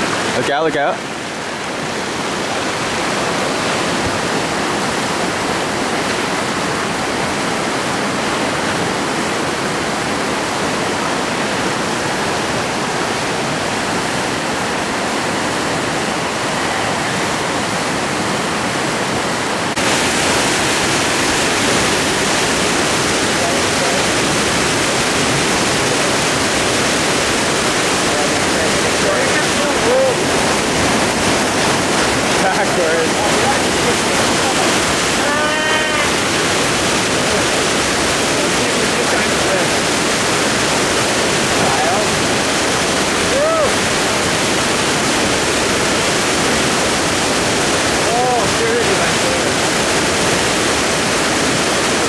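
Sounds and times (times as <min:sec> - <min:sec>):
whitewater rapids rushing: 0:00.0 - 0:52.0.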